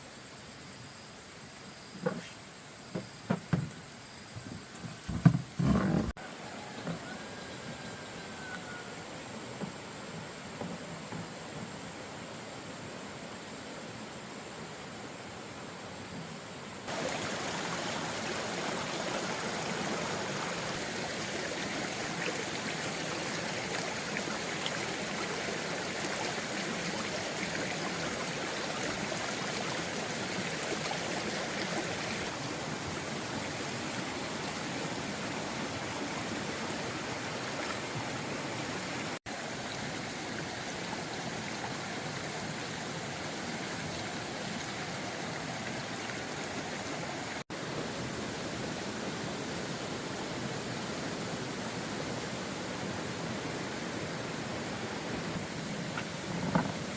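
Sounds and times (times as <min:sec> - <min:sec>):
water rushing: 0:06.1 - 0:56.9.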